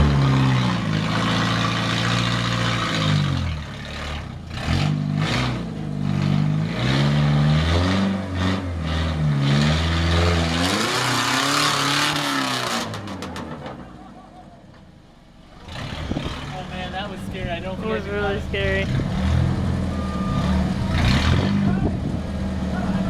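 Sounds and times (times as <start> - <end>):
car engine revving under load: 0.0 - 23.0.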